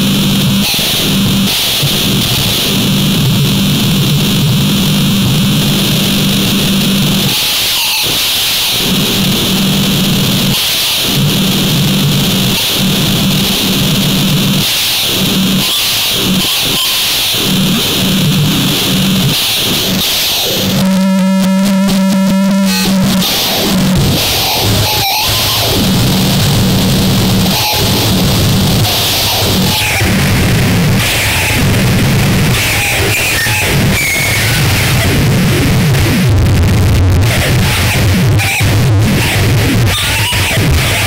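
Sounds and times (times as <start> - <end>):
pulsing buzzing tone: 0.0 - 8.1, 8.7 - 41.0
harsh distorted noise music: 0.0 - 41.0.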